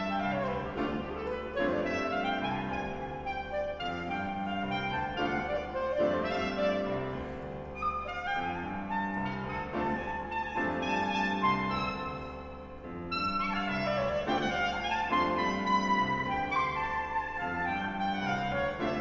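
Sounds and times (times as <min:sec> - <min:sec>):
clarinet playing held notes: 0:00.0 - 0:19.0
piano accompaniment: 0:00.0 - 0:19.0.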